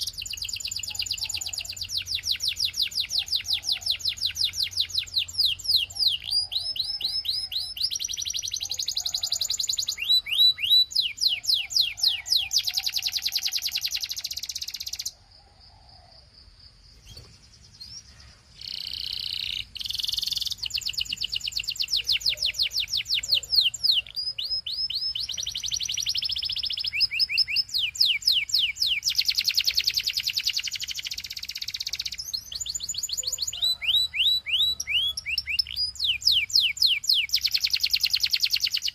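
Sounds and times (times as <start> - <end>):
canary singing: 0.0 - 15.2, 17.0 - 38.9.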